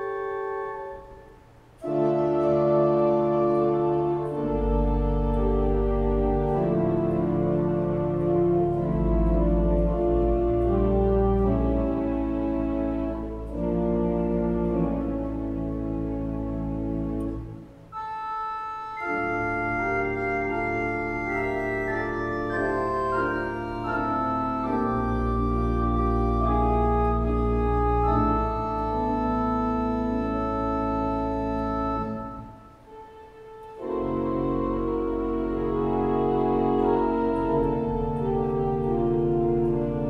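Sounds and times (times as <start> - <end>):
church organ chords: 0.0 - 40.0.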